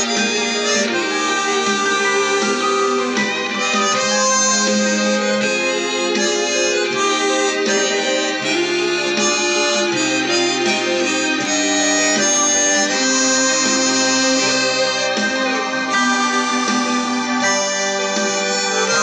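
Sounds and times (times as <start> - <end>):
backing track with low bass: 0.0 - 19.0
harmonica melody: 0.0 - 19.0.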